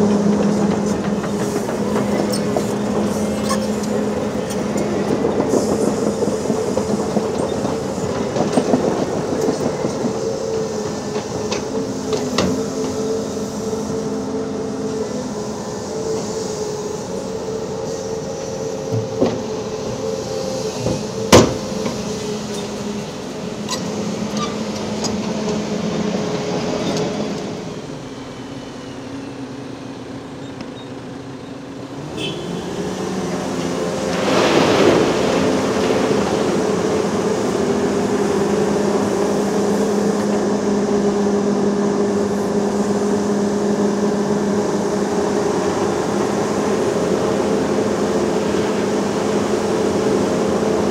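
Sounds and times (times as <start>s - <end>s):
heavy diesel engines running: 0.0s - 50.9s.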